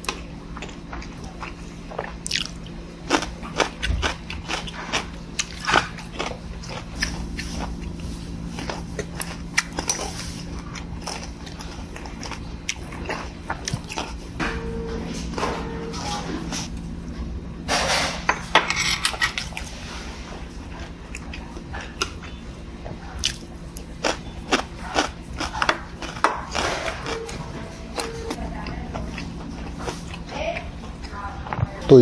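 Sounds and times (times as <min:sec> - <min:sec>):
person chewing crunchy food: 0:00.0 - 0:17.4, 0:19.1 - 0:31.2
steady low hum: 0:00.0 - 0:32.0.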